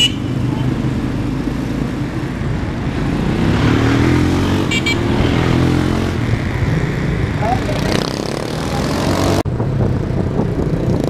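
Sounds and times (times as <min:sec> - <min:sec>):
motorcycle engine revving: 0:00.0 - 0:11.0
motorcycle engines running: 0:00.0 - 0:11.0
road rumble: 0:00.0 - 0:11.0.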